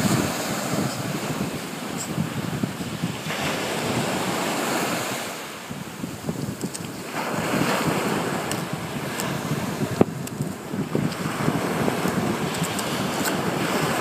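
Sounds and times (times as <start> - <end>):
sea surf washing up beach: 0.0 - 14.0
wind buffeting the microphone: 0.0 - 14.0.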